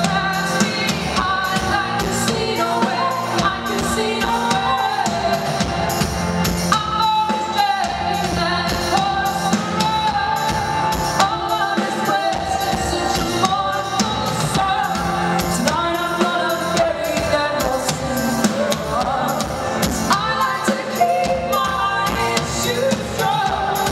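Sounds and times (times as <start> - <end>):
live rock band: 0.0 - 23.9
woman singing: 0.0 - 23.9.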